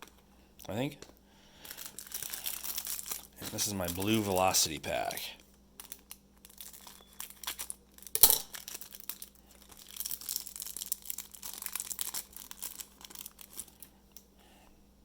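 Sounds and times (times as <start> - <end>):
wrapper crinkling and tearing: 1.6 - 13.9.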